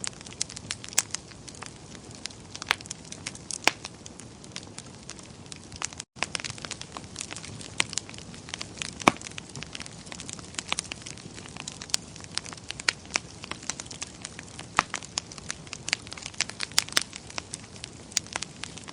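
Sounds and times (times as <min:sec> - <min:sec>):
fireplace fire crackling: 0:00.0 - 0:18.9.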